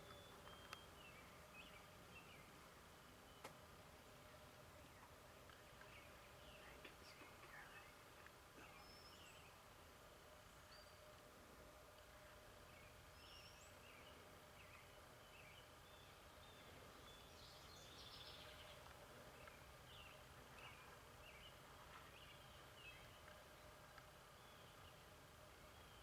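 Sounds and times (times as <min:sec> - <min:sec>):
faint bird chirps and calls: 0:00.0 - 0:26.0.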